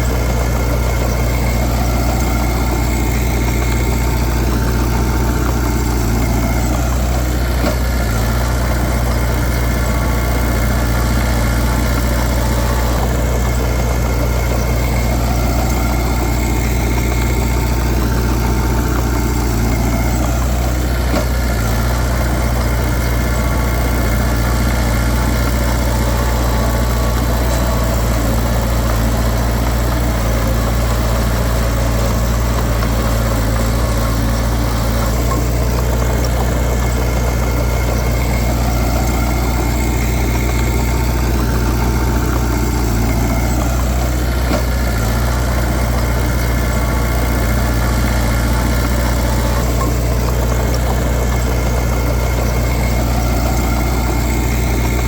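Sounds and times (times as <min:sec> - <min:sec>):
diesel earthmover engine running: 0:00.0 - 0:55.0.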